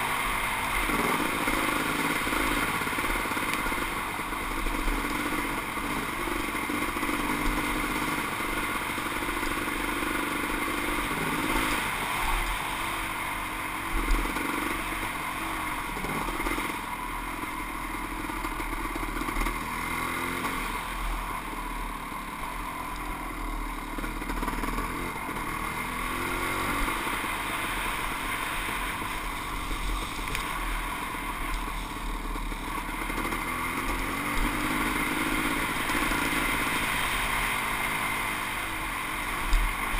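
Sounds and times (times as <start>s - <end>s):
motocross engine revving: 0.0s - 13.2s, 13.8s - 16.9s, 23.2s - 39.9s.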